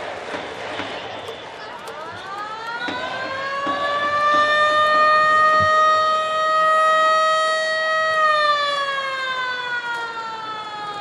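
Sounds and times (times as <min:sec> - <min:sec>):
stadium siren wailing: 0:01.0 - 0:11.0.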